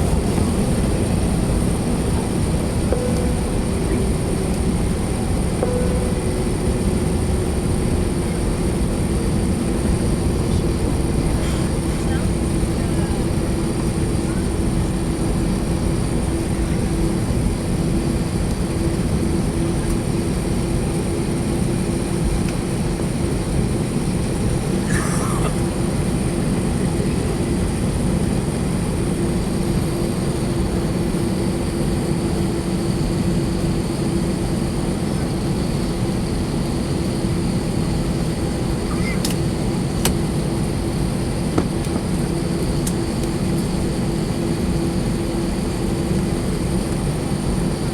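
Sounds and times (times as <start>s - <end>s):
airplane cabin engine noise: 0.0s - 47.9s
steady low hum: 0.0s - 47.9s.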